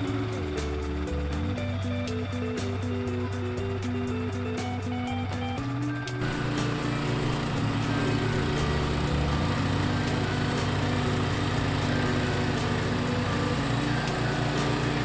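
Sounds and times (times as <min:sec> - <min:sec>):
small gasoline engine running: 0:00.0 - 0:04.6, 0:06.2 - 0:15.0.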